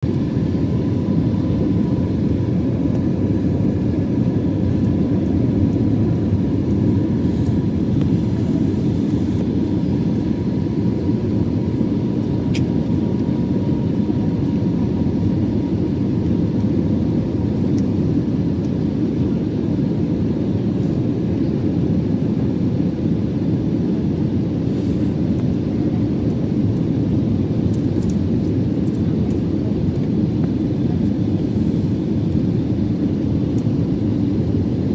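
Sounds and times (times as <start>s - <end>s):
jet engines low rumble: 0.0s - 34.9s.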